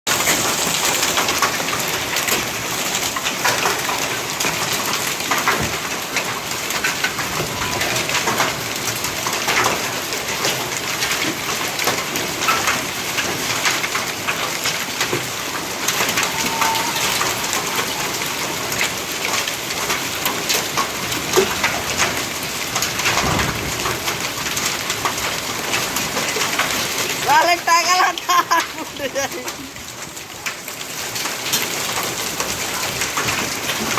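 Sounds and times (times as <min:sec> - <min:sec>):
hailstones clattering on hard surfaces: 0:00.1 - 0:17.0, 0:19.0 - 0:33.9
rain hissing: 0:00.1 - 0:33.9.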